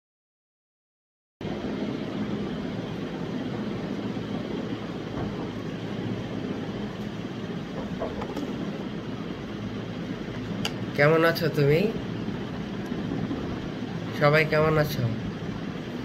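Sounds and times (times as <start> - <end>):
machine rumble and hum: 1.4 - 16.0.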